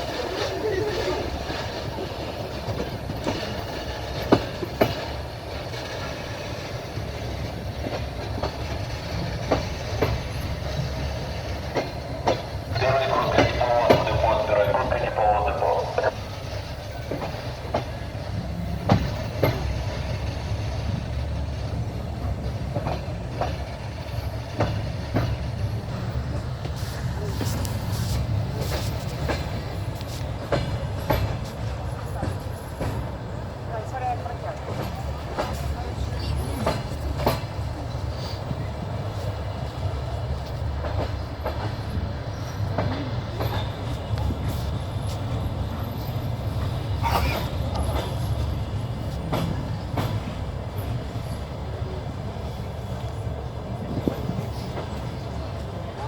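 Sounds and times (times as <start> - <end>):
train wheels clattering over rail joints: 0.0 - 14.3, 16.4 - 33.5, 34.5 - 56.0
low train rumble: 0.0 - 56.0.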